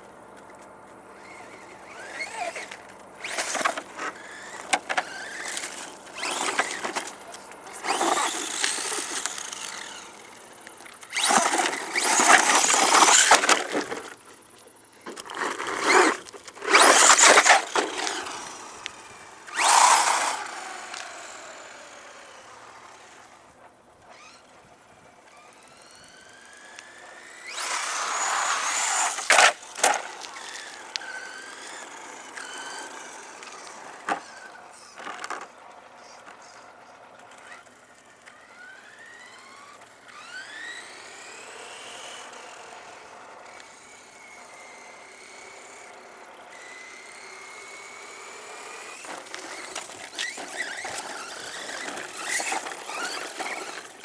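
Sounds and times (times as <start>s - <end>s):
electric motor whine: 1.1s - 35.5s, 36.2s - 54.0s.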